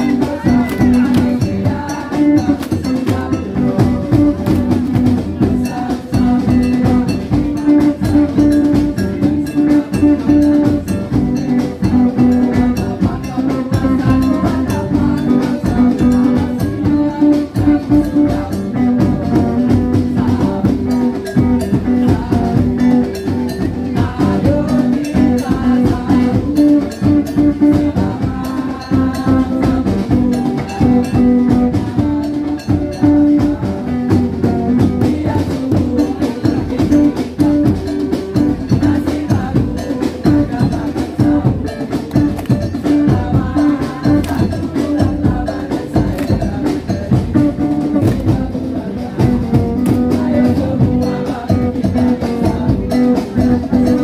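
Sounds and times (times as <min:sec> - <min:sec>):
drums and percussion beat: 0:00.0 - 0:54.0.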